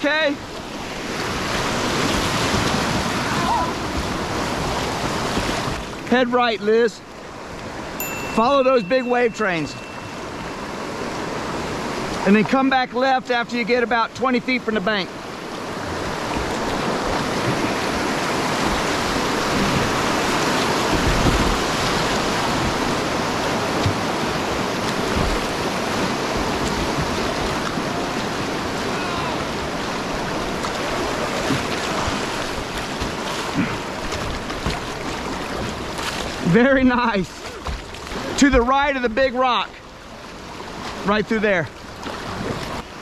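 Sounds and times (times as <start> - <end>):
whitewater rushing: 0.0 - 43.0.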